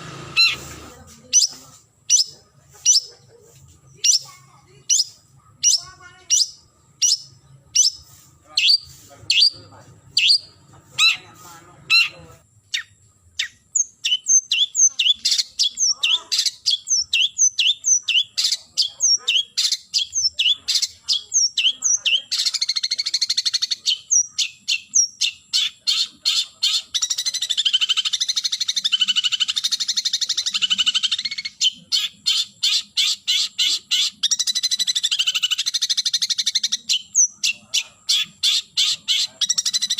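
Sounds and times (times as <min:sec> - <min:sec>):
shrike calling harshly: 0:00.0 - 0:39.9.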